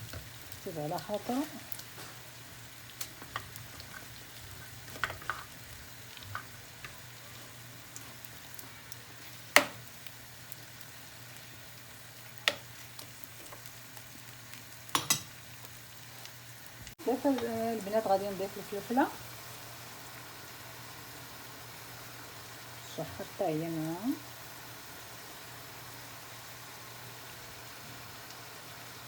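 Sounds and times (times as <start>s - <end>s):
food sizzling in oil: 0.0s - 29.0s.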